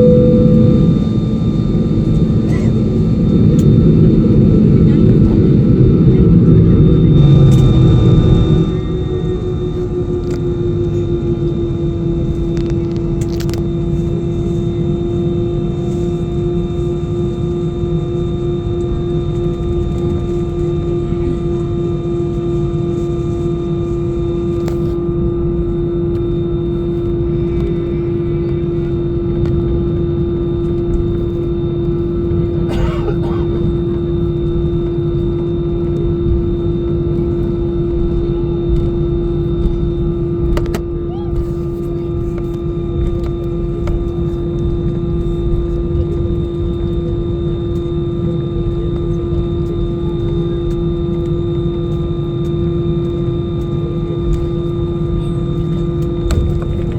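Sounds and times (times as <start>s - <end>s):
jet engine cabin rumble: 0.0s - 56.9s.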